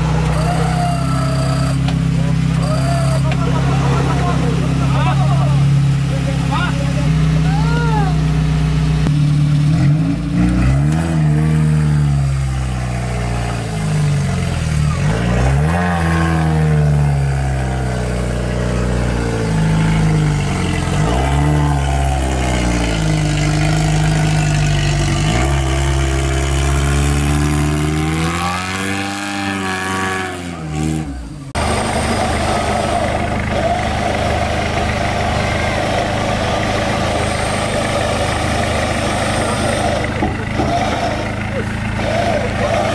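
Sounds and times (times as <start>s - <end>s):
engine running steadily: 0.0s - 15.5s, 16.4s - 42.9s
off-road vehicle engine revving: 0.0s - 42.9s.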